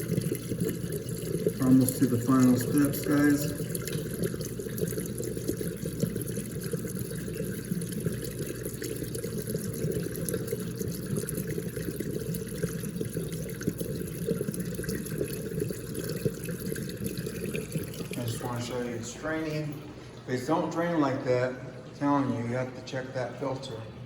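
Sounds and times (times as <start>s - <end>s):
water rushing: 0.0s - 10.9s, 13.9s - 22.8s
dishwasher drain pump: 0.0s - 24.0s.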